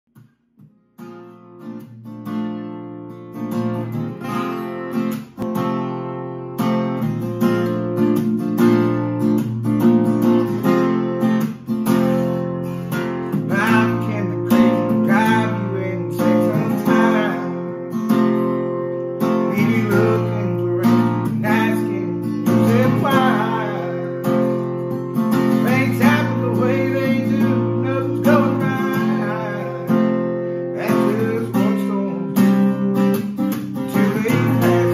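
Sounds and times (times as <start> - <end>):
acoustic guitar strumming: 0.1 - 34.9.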